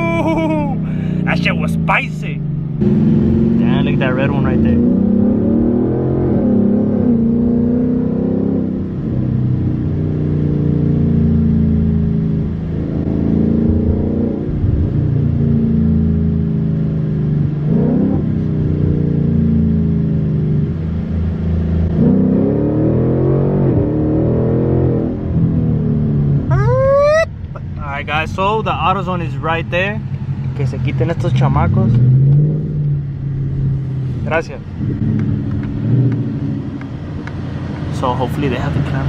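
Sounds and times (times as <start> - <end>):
car engine revving through gears: 2.5 - 26.5, 29.2 - 39.0.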